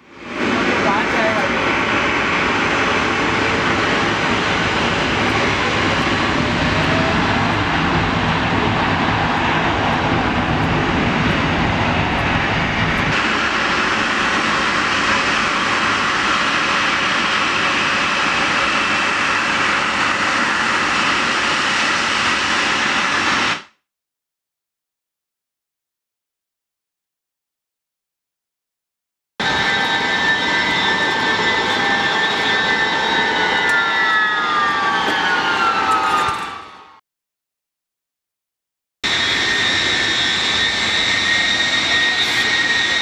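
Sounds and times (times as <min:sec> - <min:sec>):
jet engine roar: 0:00.0 - 0:23.8, 0:29.4 - 0:37.0, 0:39.0 - 0:43.0.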